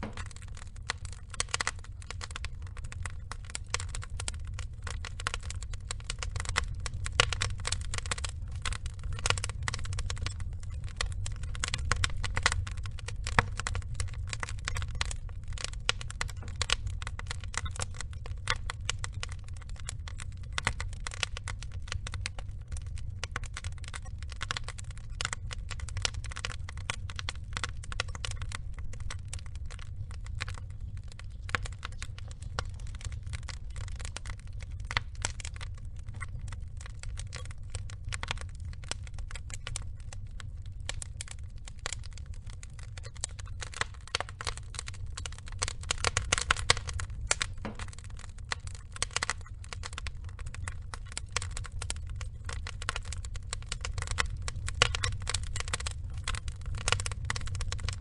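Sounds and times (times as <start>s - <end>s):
low rumble: 0.0s - 49.3s
wood fire crackling: 0.0s - 58.0s.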